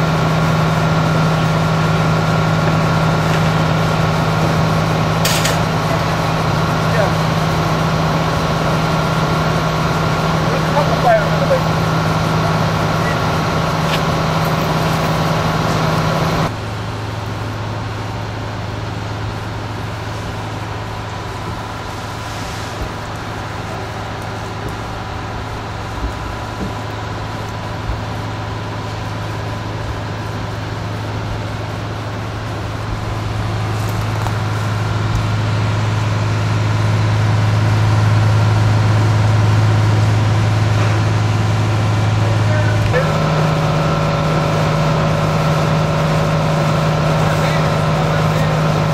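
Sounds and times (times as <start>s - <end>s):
fire truck engines humming: 0.0s - 48.9s.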